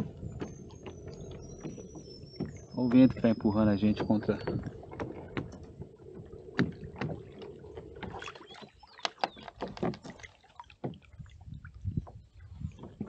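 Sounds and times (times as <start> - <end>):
paddle clicks and knocks: 0.0 - 11.3, 11.9 - 13.0
water moving around paddle: 0.0 - 13.0.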